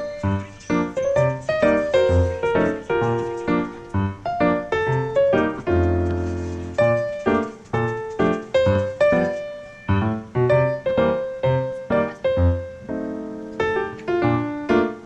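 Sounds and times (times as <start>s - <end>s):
keyboard playing light melody: 0.0s - 15.0s.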